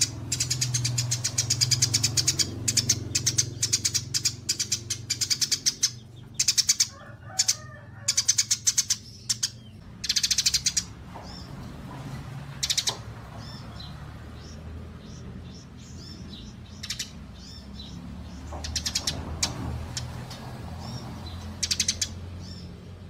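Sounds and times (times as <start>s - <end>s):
songbirds chattering in high trills: 0.0s - 23.0s.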